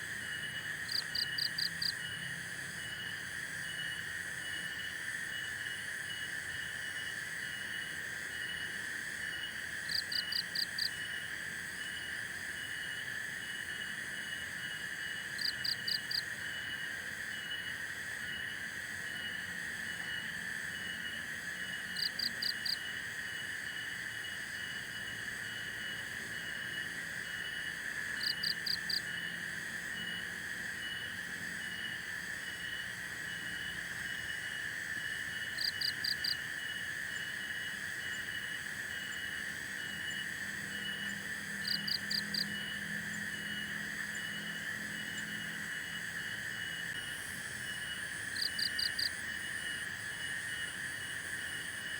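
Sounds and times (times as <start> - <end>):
insects trilling: 0.0 - 51.9
pulsing insect chirp: 0.0 - 51.9.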